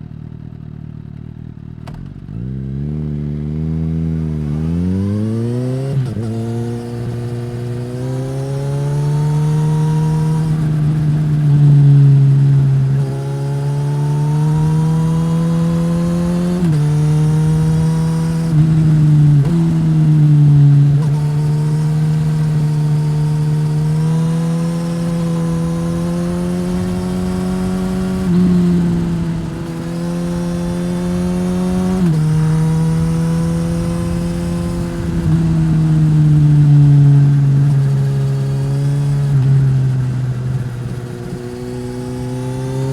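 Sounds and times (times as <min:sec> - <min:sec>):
motorcycle engine revving: 0:00.0 - 0:42.9
wind and road noise: 0:01.7 - 0:42.9.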